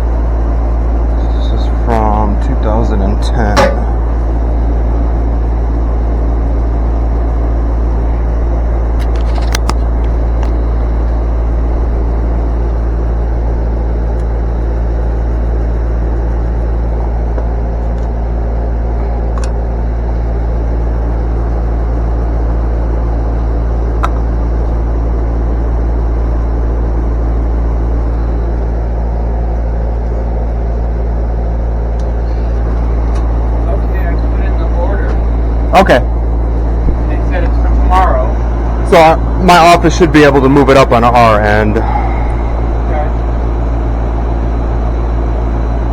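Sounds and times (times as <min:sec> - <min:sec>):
low mechanical rumble: 0:00.0 - 0:45.9.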